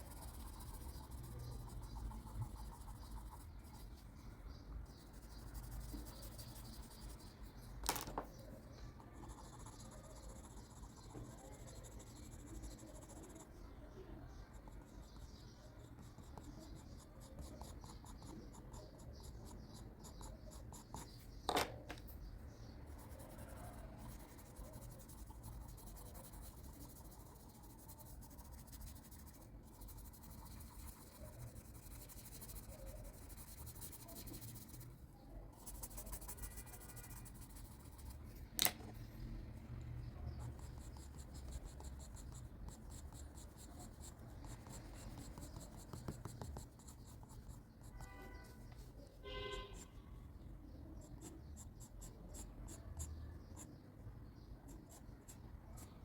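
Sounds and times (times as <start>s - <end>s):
pencil scratching on paper: 0.0s - 7.7s, 9.1s - 21.4s, 22.3s - 39.2s, 40.1s - 49.9s, 51.0s - 53.8s, 54.7s - 56.0s.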